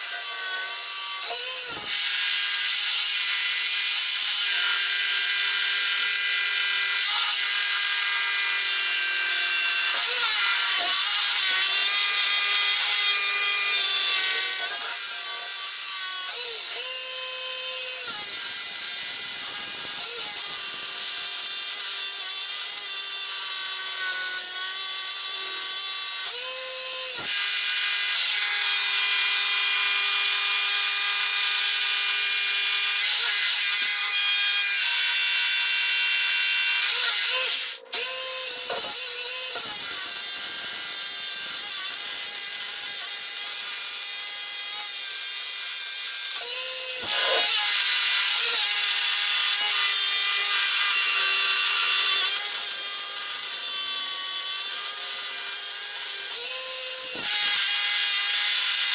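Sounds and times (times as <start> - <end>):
hammer drill boring into concrete: 0.0 - 58.9.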